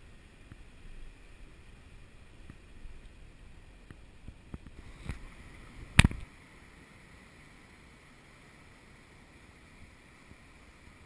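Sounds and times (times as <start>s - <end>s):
water and wind hiss: 0.0s - 11.0s.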